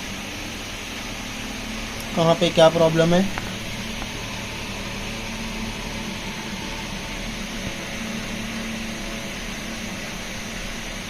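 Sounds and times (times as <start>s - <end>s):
low hum: 0.0s - 11.0s
room hiss: 0.0s - 11.0s.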